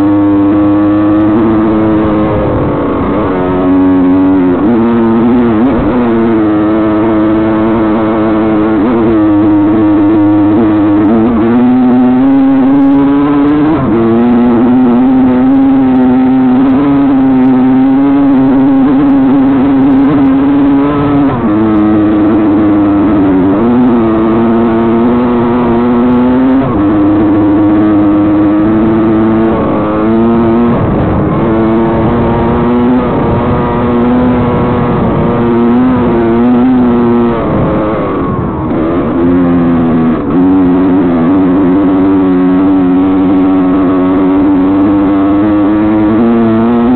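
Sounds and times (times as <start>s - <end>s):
dirt bike engine running hard: 0.0s - 46.9s.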